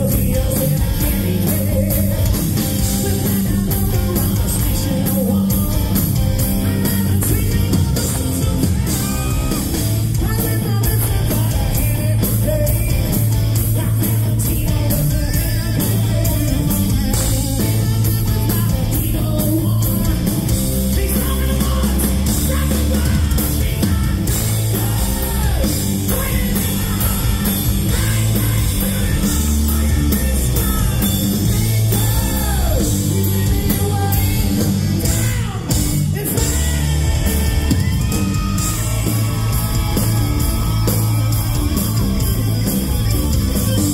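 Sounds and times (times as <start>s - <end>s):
male singer: 0.0s - 42.6s
bass guitar: 0.0s - 43.9s
distorted electric guitars: 0.0s - 43.9s
drums: 0.0s - 43.9s.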